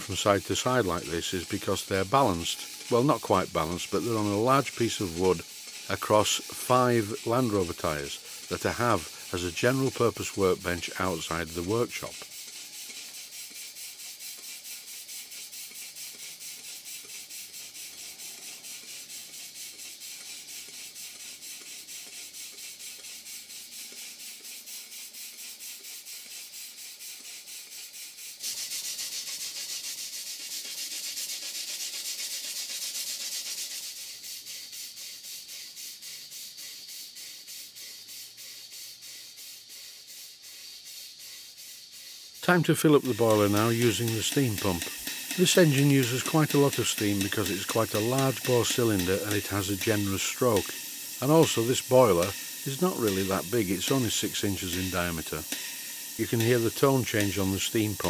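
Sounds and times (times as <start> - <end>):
model steam engine hissing beat: 0.0 - 58.0.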